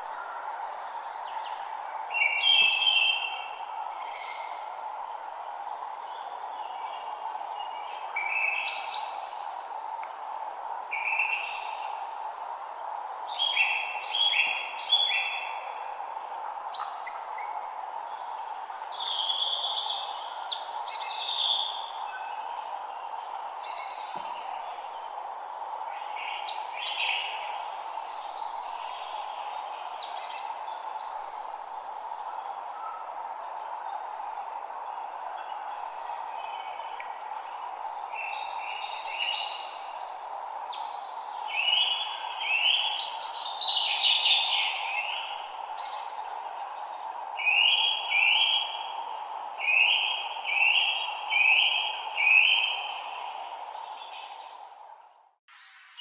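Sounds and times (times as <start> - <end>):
songbirds singing: 0.0 - 10.3, 10.9 - 56.0
steady hiss: 0.0 - 55.0.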